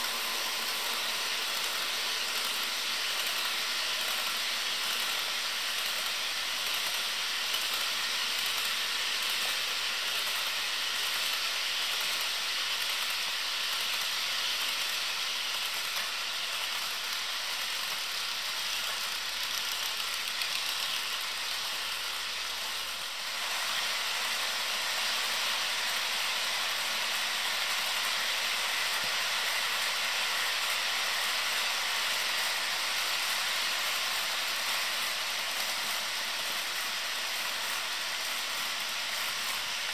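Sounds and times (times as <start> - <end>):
model train wheels on rail: 0.0 - 39.9.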